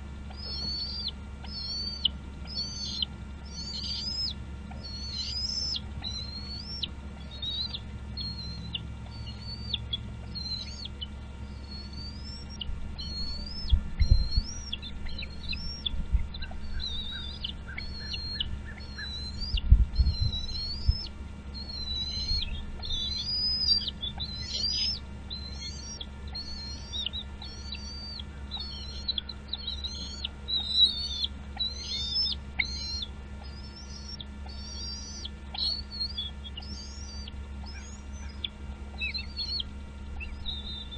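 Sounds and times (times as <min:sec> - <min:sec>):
steady low hum: 0:00.0 - 0:40.9
bird whistled calls: 0:00.3 - 0:40.9.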